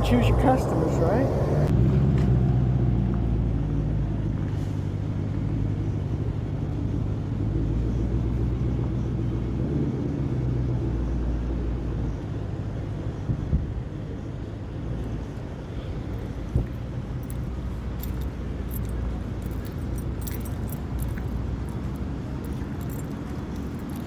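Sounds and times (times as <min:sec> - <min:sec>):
truck engine humming: 0:00.0 - 0:24.0.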